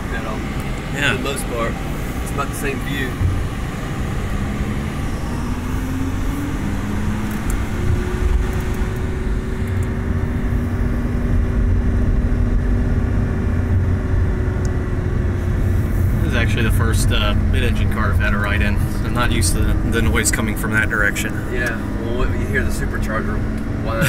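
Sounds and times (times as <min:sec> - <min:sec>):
car engine pulling away: 0:00.0 - 0:24.0
supercharger whine: 0:00.0 - 0:24.0.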